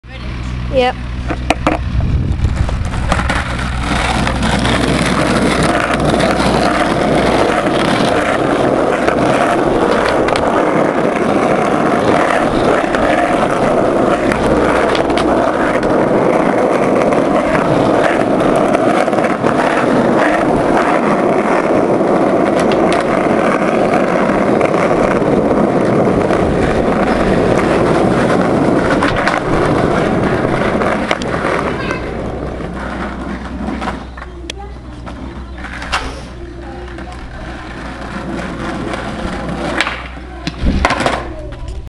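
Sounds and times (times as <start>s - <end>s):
skateboard wheels rolling on asphalt: 0.0s - 41.9s
wheels clicking over cracks: 1.2s - 41.9s.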